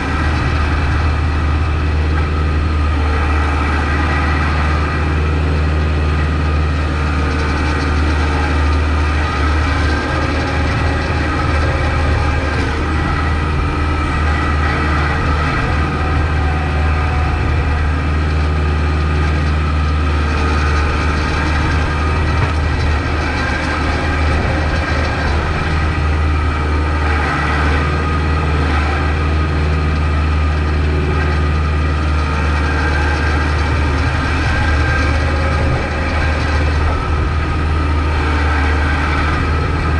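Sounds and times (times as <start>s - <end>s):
tractor diesel engine humming: 0.0s - 39.9s.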